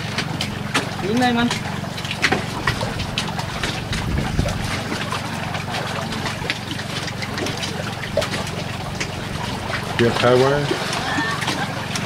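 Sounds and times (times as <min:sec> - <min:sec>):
boat engine running: 0:00.0 - 0:12.0
water splashing against hull: 0:00.0 - 0:12.0.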